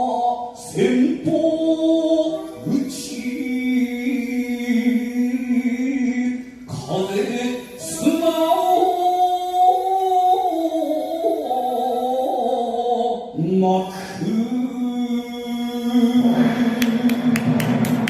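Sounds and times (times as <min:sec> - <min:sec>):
person singing long held notes: 0:00.0 - 0:17.6.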